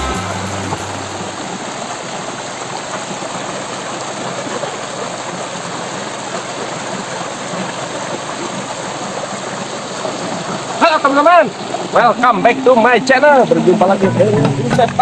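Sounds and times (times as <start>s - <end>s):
flowing river rushing: 0.0s - 15.0s.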